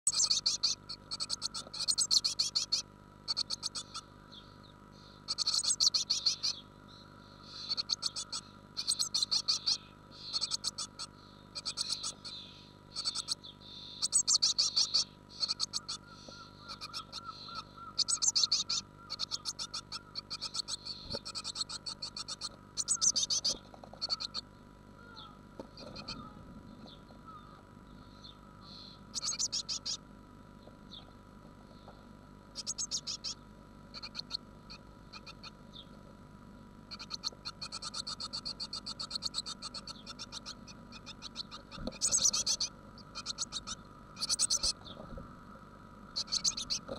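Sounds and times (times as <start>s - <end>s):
nestling birds chipping: 0.0s - 46.9s.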